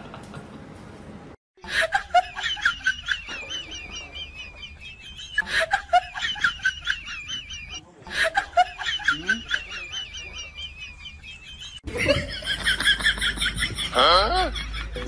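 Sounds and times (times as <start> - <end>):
high snickering chatter: 2.6 - 15.0.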